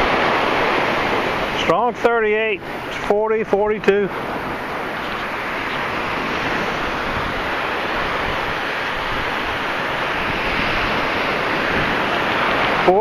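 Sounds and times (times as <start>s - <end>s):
ocean surf washing up beach: 0.0s - 13.0s.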